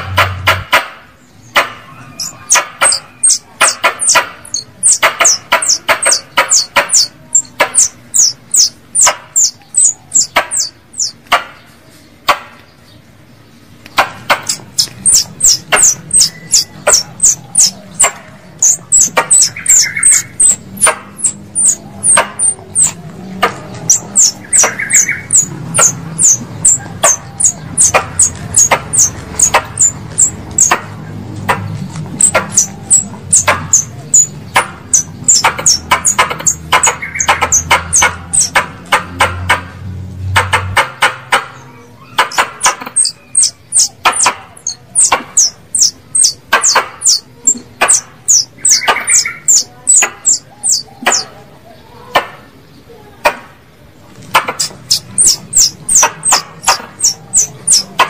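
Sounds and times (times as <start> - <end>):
squirrel chattering call: 0.0 - 12.6, 13.8 - 53.4, 54.1 - 58.0.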